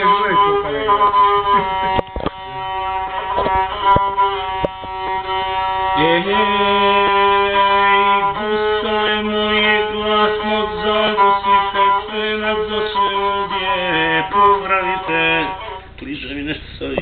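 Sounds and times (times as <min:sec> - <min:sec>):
bowed single-string fiddle melody: 0:00.0 - 0:16.0.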